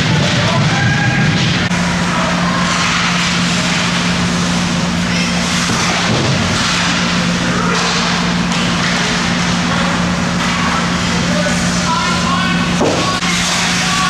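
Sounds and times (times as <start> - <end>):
ice rink hum and hiss: 0.0 - 14.0.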